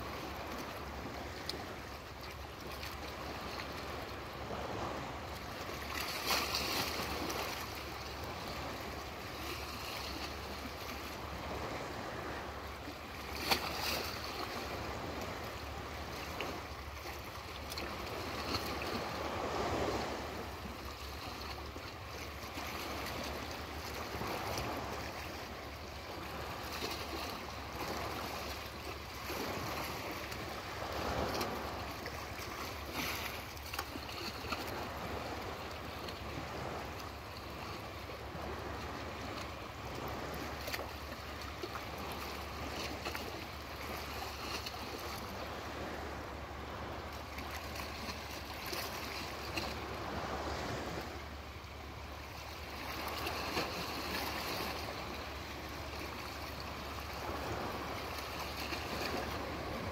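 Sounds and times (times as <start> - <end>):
small waves lapping at shore: 0.0 - 59.9.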